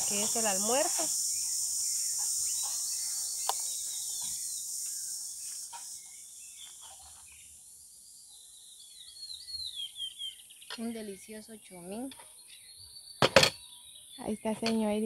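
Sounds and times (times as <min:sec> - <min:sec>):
faint bird chirps: 0:00.0 - 0:15.0
insects droning: 0:00.0 - 0:15.0.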